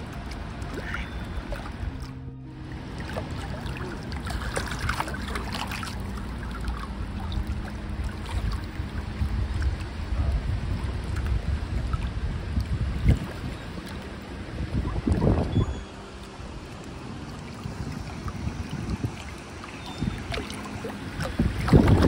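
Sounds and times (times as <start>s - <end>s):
choppy lake water: 0.0s - 22.0s
crackles and splashes: 0.0s - 22.0s
wind buffeting microphone: 2.8s - 22.0s.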